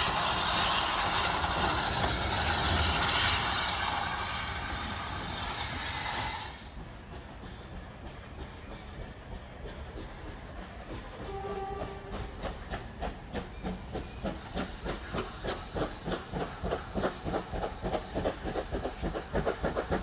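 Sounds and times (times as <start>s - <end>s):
steam hiss: 0.0s - 6.9s, 10.2s - 20.0s.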